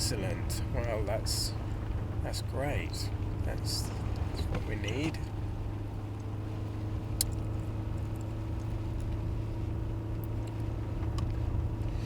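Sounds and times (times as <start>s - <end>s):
car engine drone and road noise: 0.0s - 12.0s.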